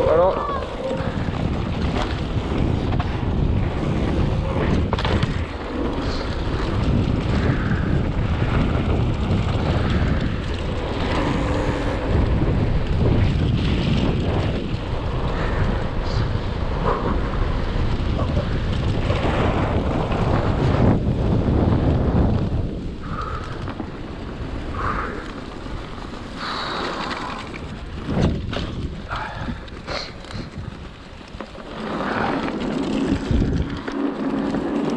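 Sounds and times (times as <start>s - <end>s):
bike rolling and rattling: 0.0s - 34.9s
wind buffeting microphone: 0.0s - 34.9s.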